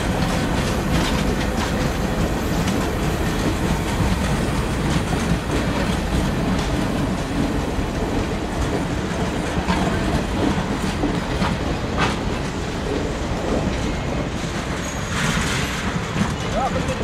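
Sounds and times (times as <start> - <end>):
clickety-clack over rail joints: 0.0 - 17.0
train wheels rumbling on rails: 0.0 - 17.0.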